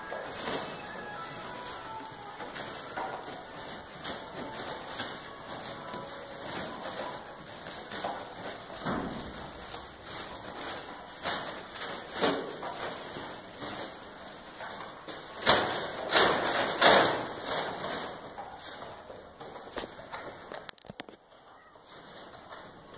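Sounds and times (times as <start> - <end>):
flag flapping: 0.0 - 22.9.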